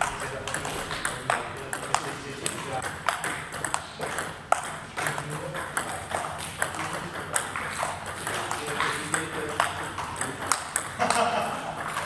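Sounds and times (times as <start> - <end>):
table tennis balls clicking: 0.0 - 12.0.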